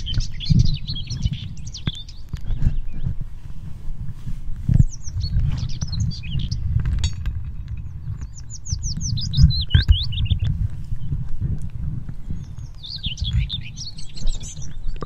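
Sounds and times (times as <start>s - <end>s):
bird chirping: 0.0s - 3.2s, 4.7s - 11.4s, 12.1s - 15.0s.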